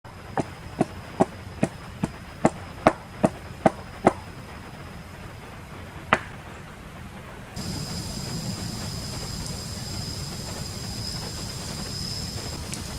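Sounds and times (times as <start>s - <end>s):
steady hiss: 0.1s - 12.9s.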